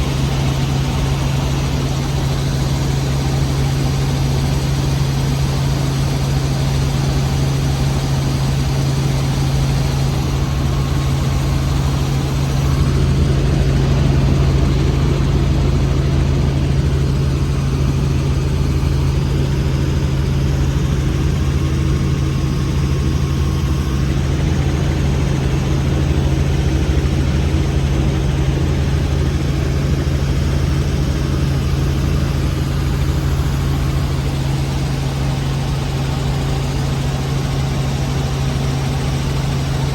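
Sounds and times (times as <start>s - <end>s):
helicopter drone in cabin: 0.0s - 39.9s.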